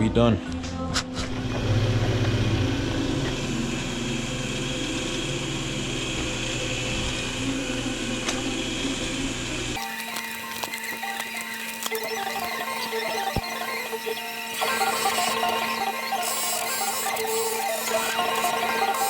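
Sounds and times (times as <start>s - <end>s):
polishing buffer motor running: 1.5s - 19.0s.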